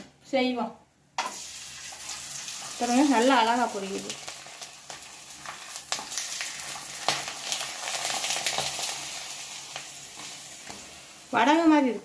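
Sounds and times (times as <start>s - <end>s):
fritter sizzling in hot oil: 1.2s - 11.9s.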